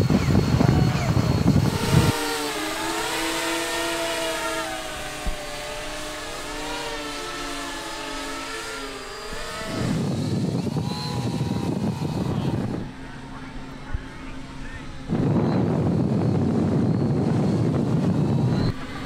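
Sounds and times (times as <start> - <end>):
wind rumble on microphone: 0.0 - 7.2, 7.8 - 19.0
model airplane motor and propeller: 0.0 - 19.0.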